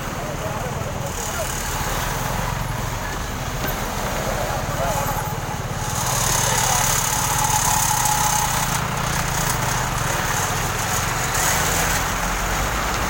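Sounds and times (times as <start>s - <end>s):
heavy engine humming: 0.0s - 13.0s.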